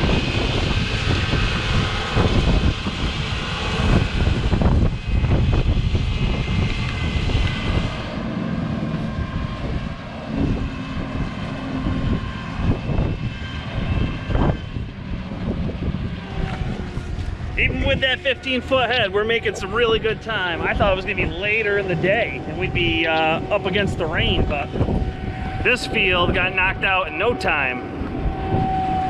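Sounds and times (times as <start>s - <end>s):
farm machinery engine running: 0.0s - 29.0s
wind buffeting microphone: 0.0s - 29.0s.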